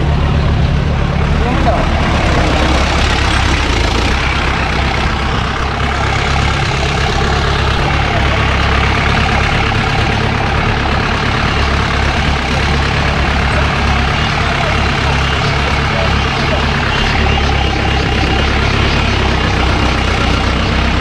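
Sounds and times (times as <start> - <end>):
jeep engine rumbling: 0.0 - 21.0
vehicle riding over rough track: 0.0 - 21.0.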